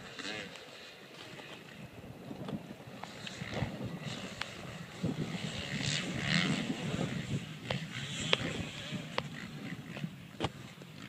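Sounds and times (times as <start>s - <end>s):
distant dirt bike engines: 0.0s - 11.0s
wind buffeting microphone: 1.8s - 10.7s.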